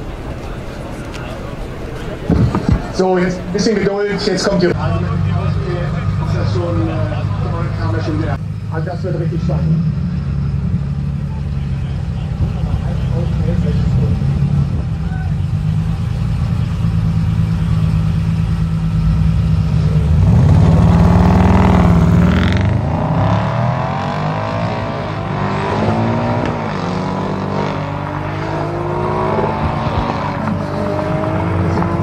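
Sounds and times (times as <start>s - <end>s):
car engines accelerating hard: 0.0s - 32.0s.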